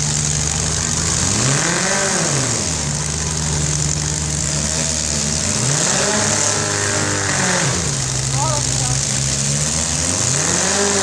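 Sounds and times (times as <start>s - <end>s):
car engine revving: 0.0s - 11.0s
car engines idling loudly: 0.0s - 11.0s.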